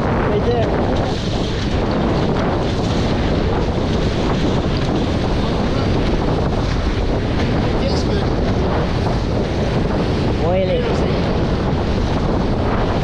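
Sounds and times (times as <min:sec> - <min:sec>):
water rushing along hulls: 0:00.0 - 0:13.0
wind buffeting microphone: 0:00.0 - 0:13.0.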